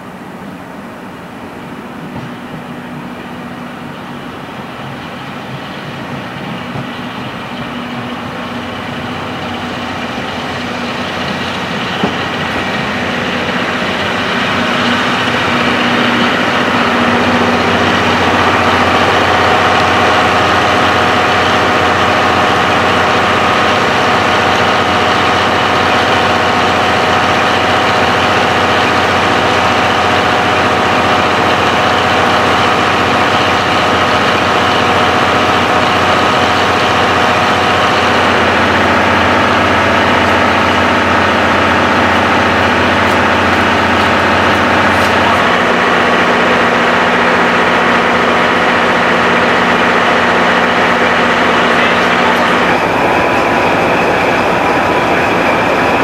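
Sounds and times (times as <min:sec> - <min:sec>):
diesel railcar engines idling: 0:00.0 - 0:56.0.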